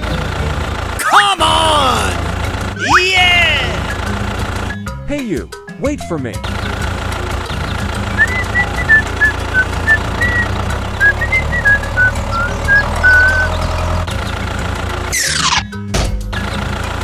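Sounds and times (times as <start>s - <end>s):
vehicle engine running: 0.0s - 5.1s, 6.2s - 17.0s.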